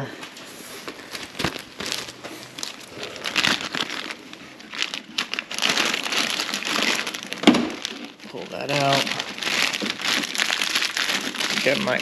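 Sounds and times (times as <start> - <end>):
plastic bag crinkling: 0.3 - 12.0.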